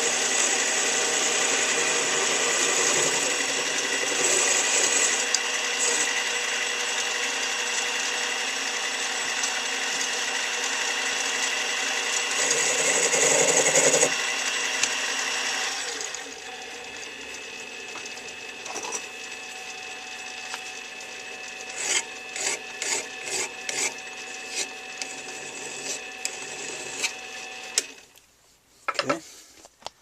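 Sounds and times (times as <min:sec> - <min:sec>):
lathe cutting metal: 0:00.0 - 0:28.0
lathe motor whine: 0:00.0 - 0:28.1.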